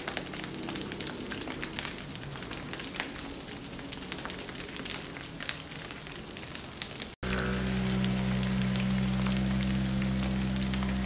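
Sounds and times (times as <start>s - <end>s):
grass fire crackling: 0.0s - 11.0s.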